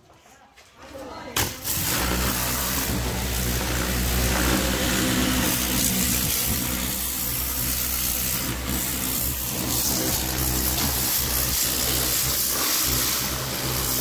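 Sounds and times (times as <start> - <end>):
water jet spraying: 1.4 - 14.0
pressure washer motor humming: 1.6 - 14.0.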